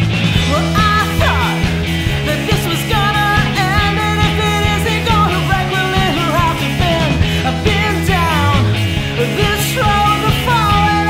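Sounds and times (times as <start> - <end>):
indie rock band playing: 0.0 - 11.0.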